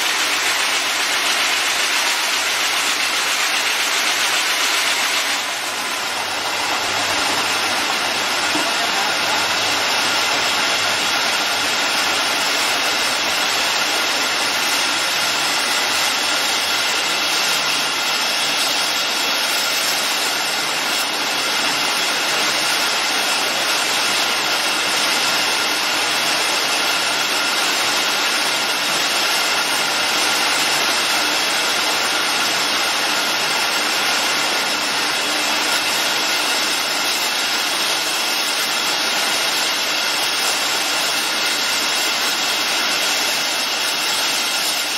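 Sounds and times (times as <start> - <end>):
machine drone: 0.0 - 44.9.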